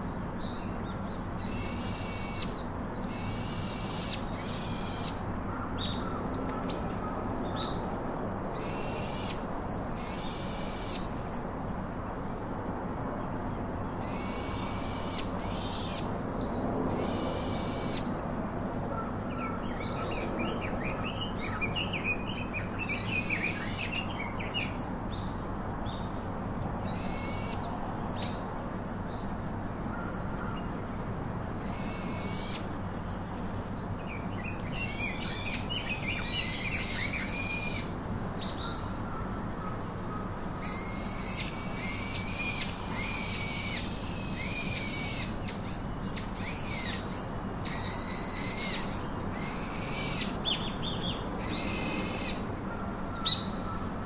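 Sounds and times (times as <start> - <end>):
birds calling and twittering: 0.0 - 54.0.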